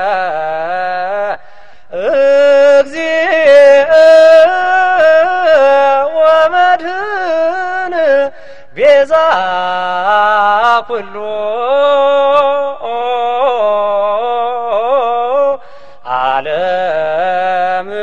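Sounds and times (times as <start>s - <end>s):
man singing a hymn: 0.0s - 18.0s.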